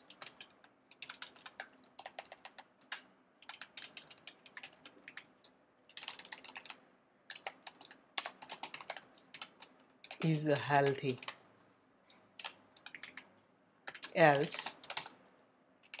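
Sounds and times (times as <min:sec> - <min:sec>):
faint keyboard typing: 0:00.0 - 0:16.0.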